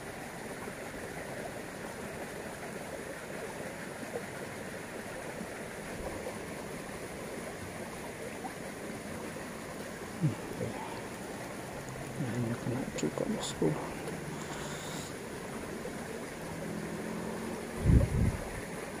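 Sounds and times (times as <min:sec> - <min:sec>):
water rushing in a channel: 0:00.0 - 0:19.0.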